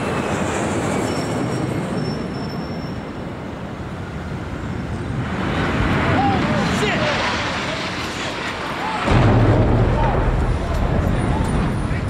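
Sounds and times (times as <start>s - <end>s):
jet airliner engine roar: 0.0s - 12.0s.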